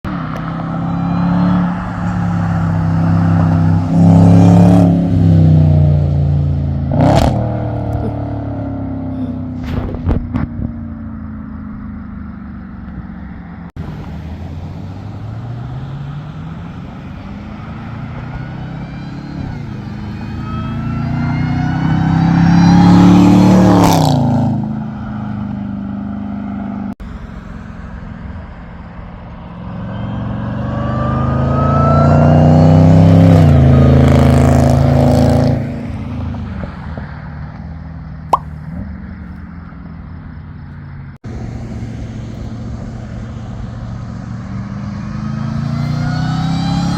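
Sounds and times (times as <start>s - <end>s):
car engine accelerating hard: 0.1s - 46.9s.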